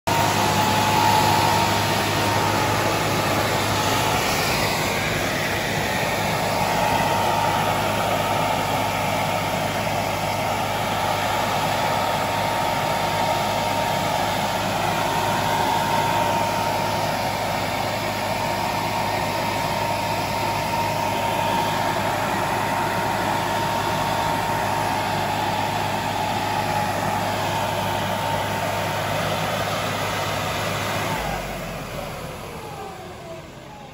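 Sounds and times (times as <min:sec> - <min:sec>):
sprayer fan rushing and whining: 0:00.1 - 0:33.9
tractor engine running: 0:00.1 - 0:33.9.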